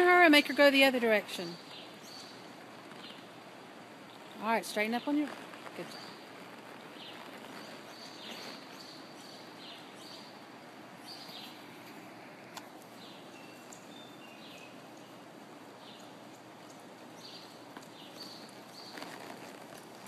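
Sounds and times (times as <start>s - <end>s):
faint background noise: 0.0s - 20.0s
small birds chirping: 0.0s - 20.0s.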